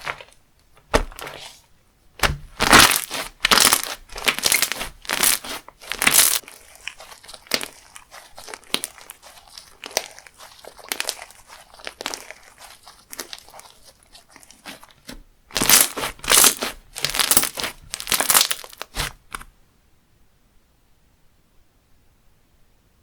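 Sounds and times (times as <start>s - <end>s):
slime crackling and popping: 0.0s - 1.6s, 2.2s - 19.4s
slime crunching squishes: 0.0s - 19.4s.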